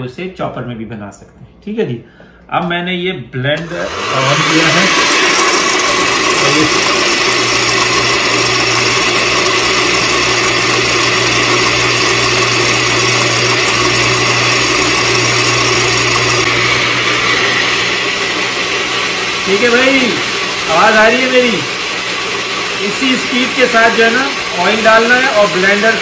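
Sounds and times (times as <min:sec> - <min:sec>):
blender running: 0:03.6 - 0:26.0.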